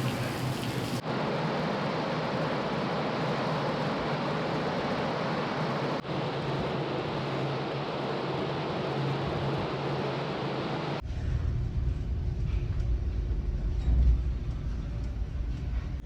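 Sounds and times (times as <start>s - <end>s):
low even hum: 0.0s - 16.0s.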